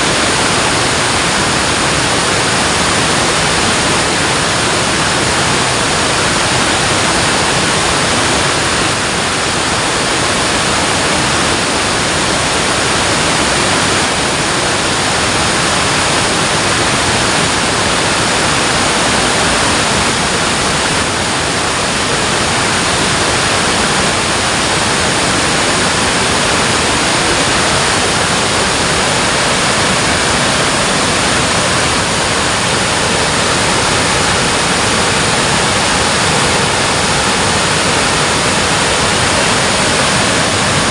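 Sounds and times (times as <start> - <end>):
water pouring over a dam: 0.0 - 40.9.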